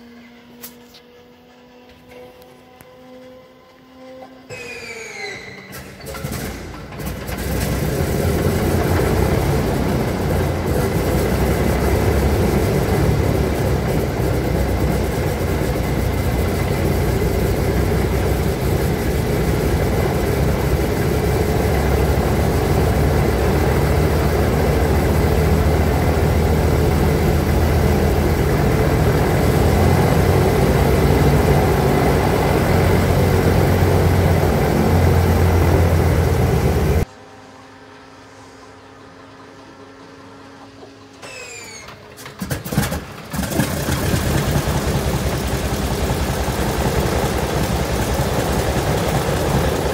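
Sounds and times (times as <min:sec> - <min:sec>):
radial aircraft engine idling: 0:00.0 - 0:37.1, 0:38.6 - 0:49.9.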